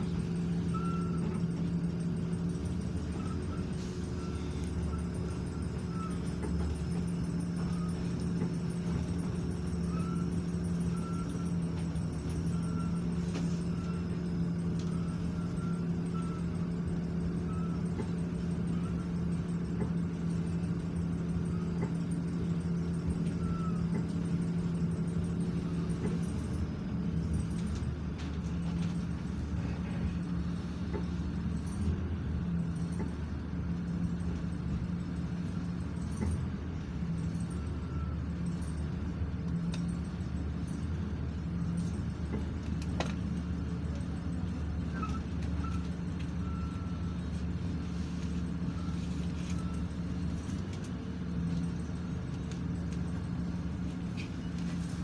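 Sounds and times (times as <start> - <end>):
train engine hum and rumble: 0.0 - 55.0.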